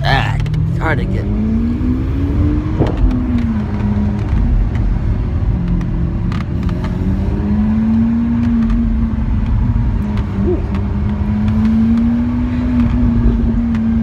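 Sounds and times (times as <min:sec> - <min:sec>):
car engine humming at low revs: 0:00.0 - 0:14.0.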